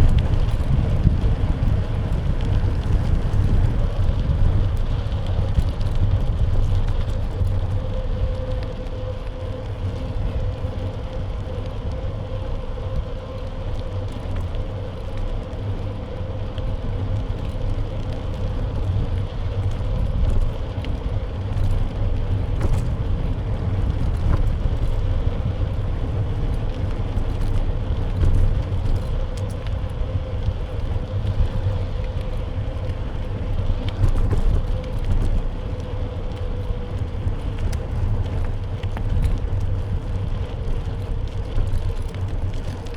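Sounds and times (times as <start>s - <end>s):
bike road rumble: 0.0s - 42.9s
wind noise: 0.0s - 42.9s.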